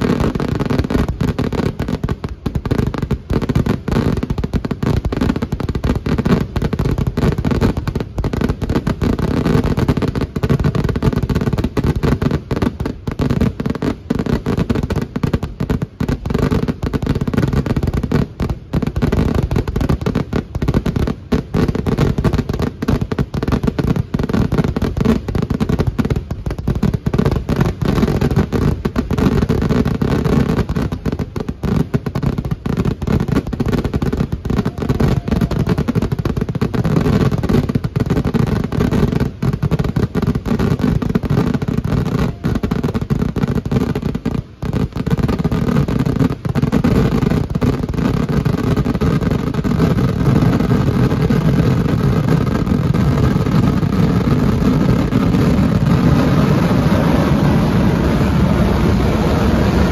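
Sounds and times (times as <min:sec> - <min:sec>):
firework explosions: 0:00.0 - 0:59.9.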